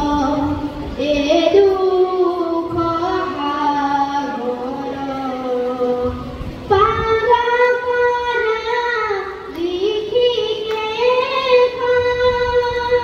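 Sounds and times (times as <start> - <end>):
boy singing a slow chant: 0.0 - 13.0.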